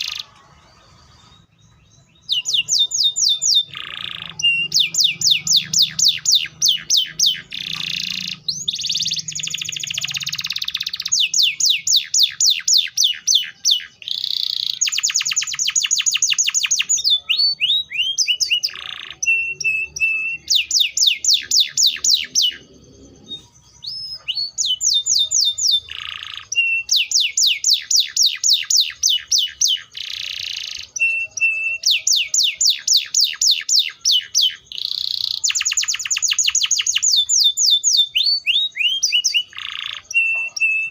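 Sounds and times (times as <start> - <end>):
canary singing rapid trills: 0.0 - 40.9.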